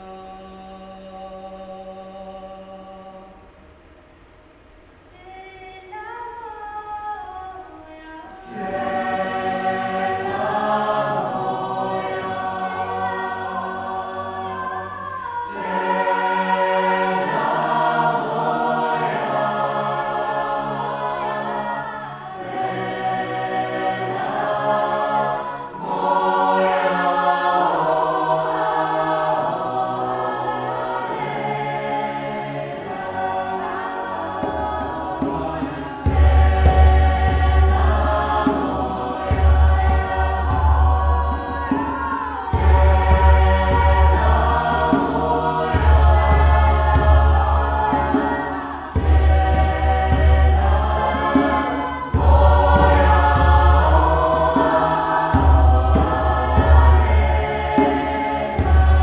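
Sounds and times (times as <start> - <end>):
mixed choir singing in harmony: 0.0 - 3.6, 4.9 - 59.0.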